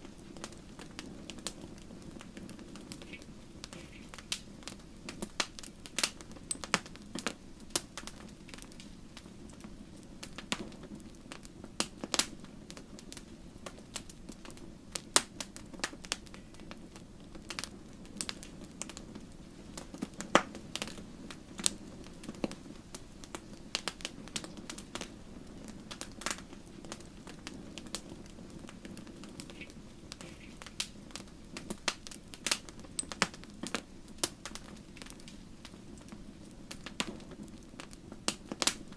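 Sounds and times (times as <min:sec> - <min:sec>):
logs crackling and popping: 0:00.0 - 0:38.9
low rush of flames: 0:00.0 - 0:38.9.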